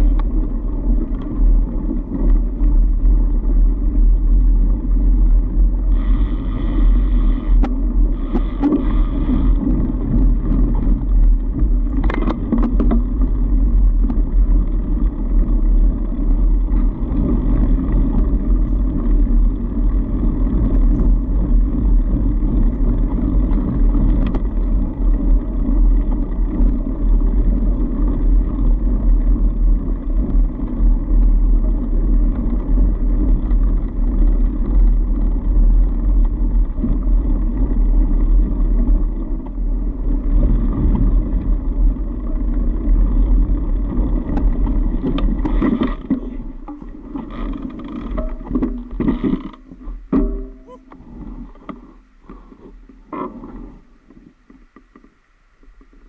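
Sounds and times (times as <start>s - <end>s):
bike tyres rumbling on snow: 0.0s - 56.0s
wind on microphone: 0.0s - 56.0s.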